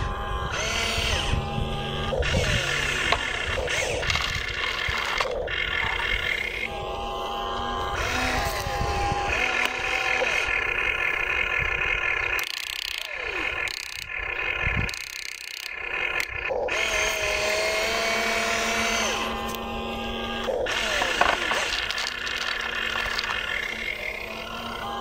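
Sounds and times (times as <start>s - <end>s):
toy excavator motors whining: 0.0s - 25.0s.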